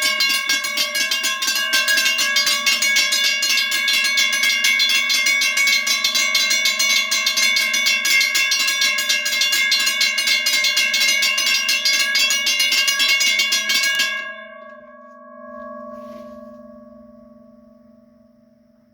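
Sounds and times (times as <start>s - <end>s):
railroad crossing bells clanging: 0.0s - 16.6s.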